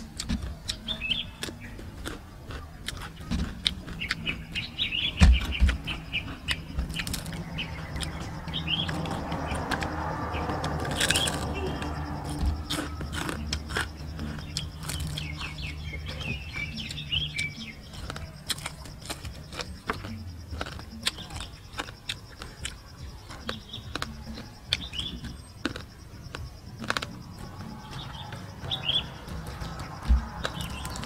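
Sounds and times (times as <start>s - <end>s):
chewing and crunching food: 0.0s - 31.0s
small birds chirping: 0.0s - 31.0s.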